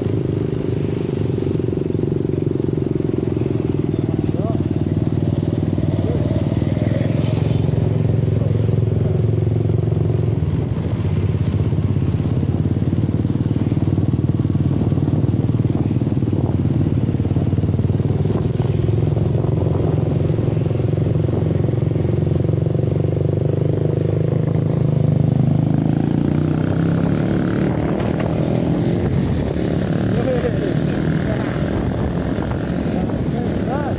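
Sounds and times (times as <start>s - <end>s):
motorcycle engine running: 0.0s - 33.9s
road and traffic noise: 0.0s - 33.9s.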